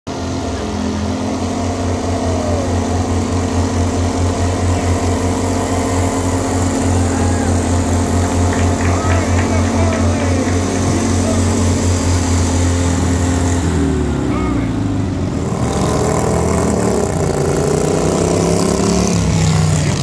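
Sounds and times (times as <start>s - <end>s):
lawn mower engines racing past: 0.1s - 20.0s.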